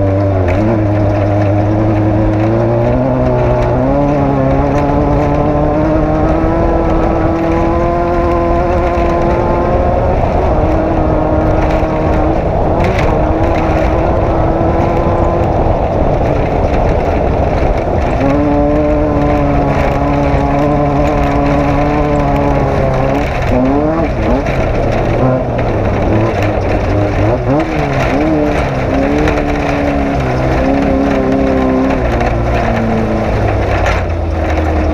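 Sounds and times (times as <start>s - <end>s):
off-road vehicle engine revving: 0.0s - 34.9s.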